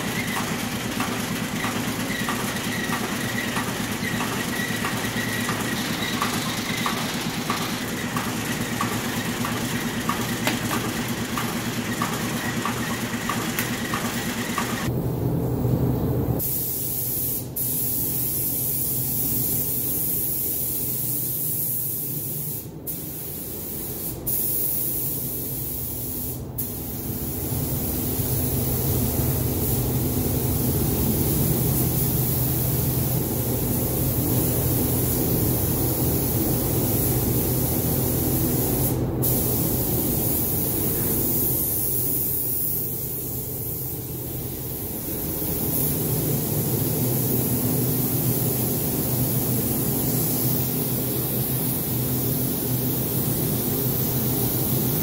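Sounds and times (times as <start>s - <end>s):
paint spray gun hissing: 0.0s - 14.9s, 16.4s - 55.0s.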